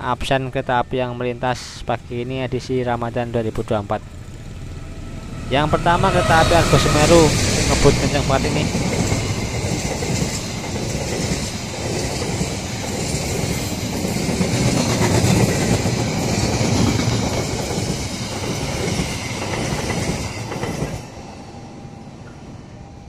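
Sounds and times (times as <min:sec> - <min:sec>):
train wheels on rails: 0:02.6 - 0:23.0.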